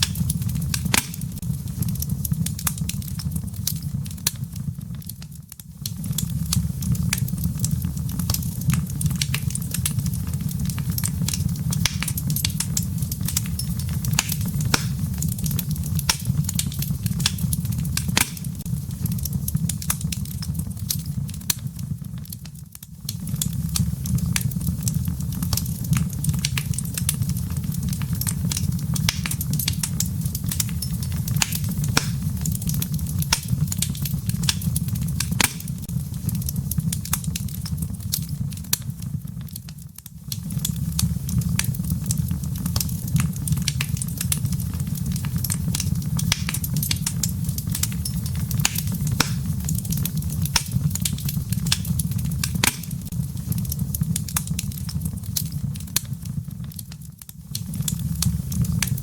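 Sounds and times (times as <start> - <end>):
low rumble of burning logs: 0.0 - 59.0
wood fire popping and snapping: 0.0 - 59.0.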